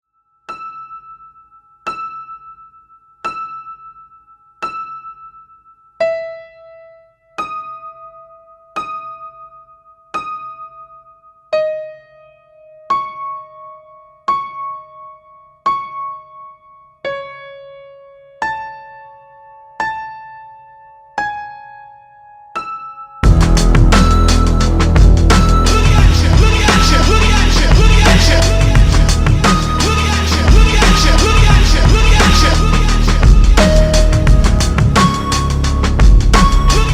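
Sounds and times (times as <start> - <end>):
slow piano-like keyboard music: 0.4 - 36.9.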